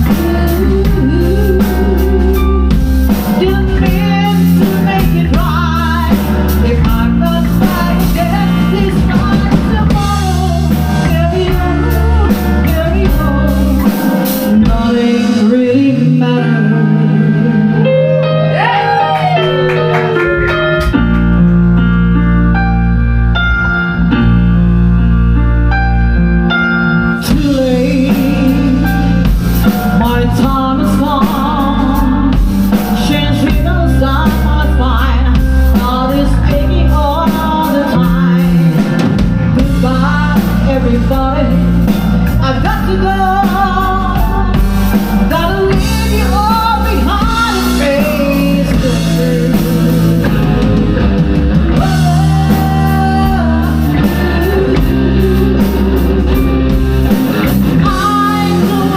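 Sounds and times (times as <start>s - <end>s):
lead voice singing: 0.0s - 20.8s, 27.2s - 58.9s
keyboard chords: 0.0s - 58.9s
rock band playing: 0.0s - 58.9s.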